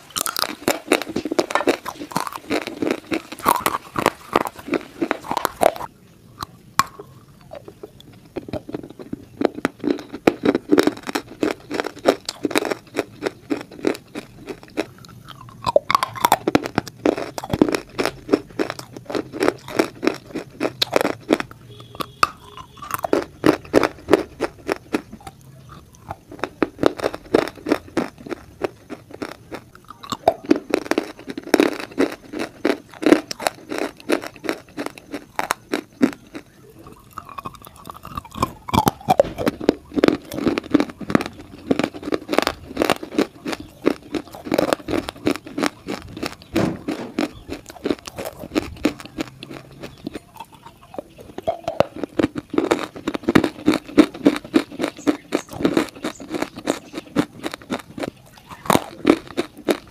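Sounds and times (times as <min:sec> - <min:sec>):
person crunching stone: 0:00.0 - 0:05.9, 0:06.8 - 0:59.9.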